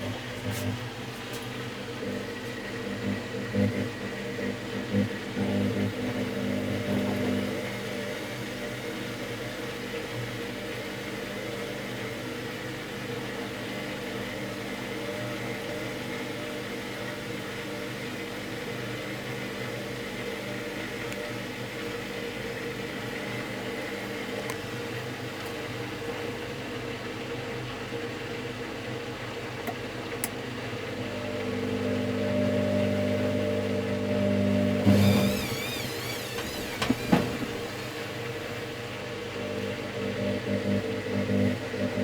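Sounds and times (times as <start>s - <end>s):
washing machine hum and whir: 0.0s - 42.0s.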